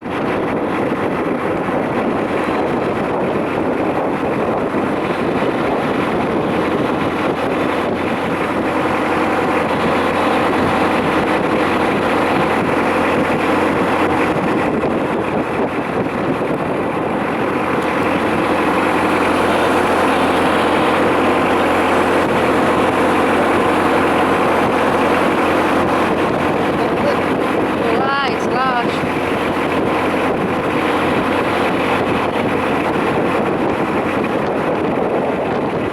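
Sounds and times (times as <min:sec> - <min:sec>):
boat engine running: 0:00.0 - 0:35.9
wind rushing over microphone: 0:00.0 - 0:35.9.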